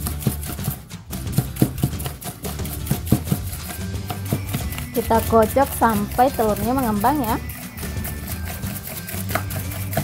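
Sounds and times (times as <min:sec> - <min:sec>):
background music: 0:00.0 - 0:10.0
whisk tapping in metal bowl: 0:00.0 - 0:10.0.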